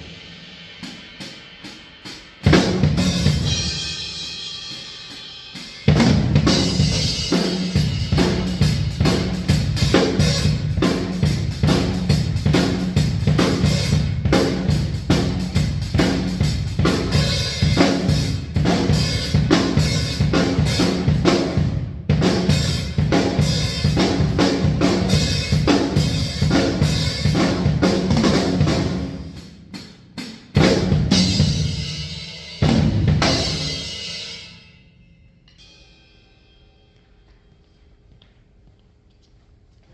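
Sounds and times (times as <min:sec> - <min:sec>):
drum kit groove: 0:00.0 - 0:34.7.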